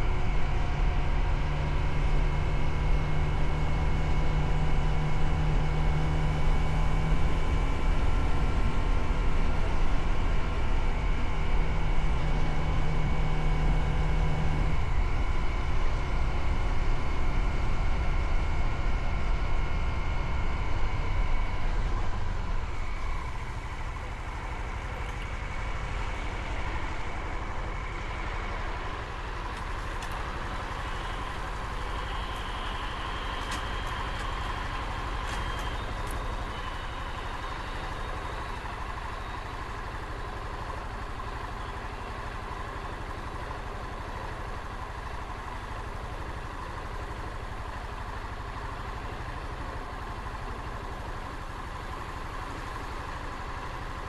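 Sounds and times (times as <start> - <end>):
road noise: 0.0 - 54.0.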